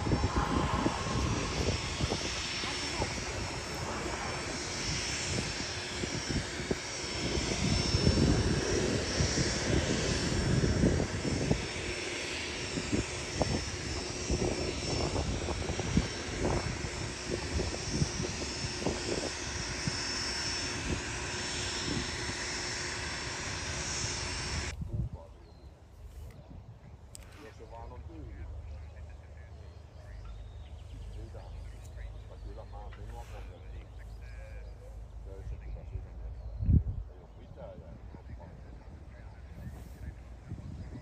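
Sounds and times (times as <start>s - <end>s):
turboprop aircraft engines droning: 0.0s - 41.0s.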